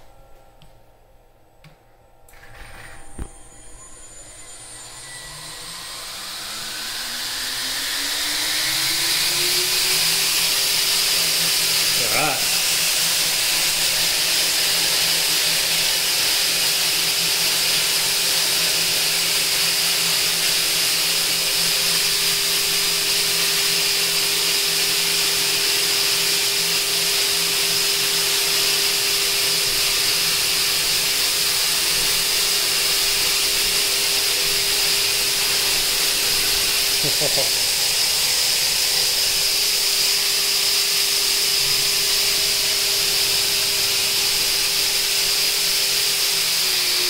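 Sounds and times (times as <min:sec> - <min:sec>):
constant whine: 0:00.0 - 0:47.0.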